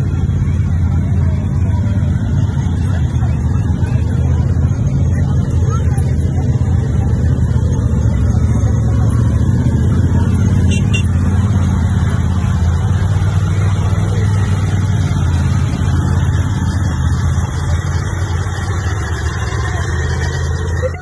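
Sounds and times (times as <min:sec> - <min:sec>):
vehicle engines passing: 0:00.0 - 0:21.0.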